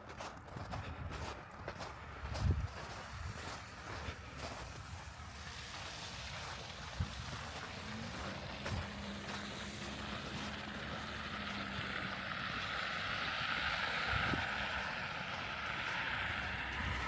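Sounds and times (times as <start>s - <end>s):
vehicle driving past: 2.1s - 17.0s.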